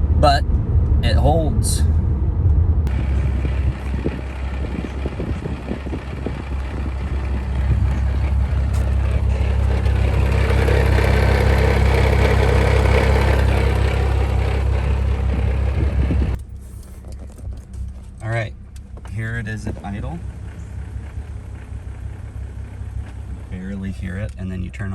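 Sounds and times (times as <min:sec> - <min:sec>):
car engine running: 0:00.0 - 0:24.9
road noise: 0:00.0 - 0:24.9.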